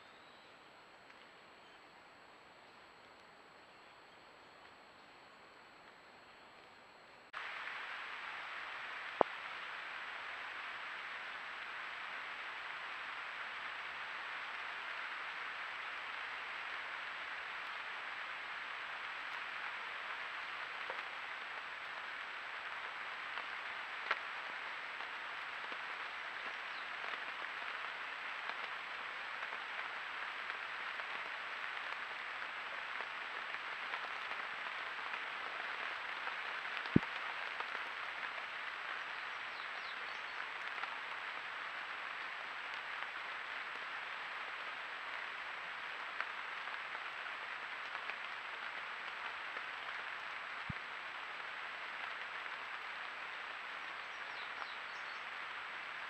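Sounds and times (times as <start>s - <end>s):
rain falling on foliage: 0.0s - 56.0s.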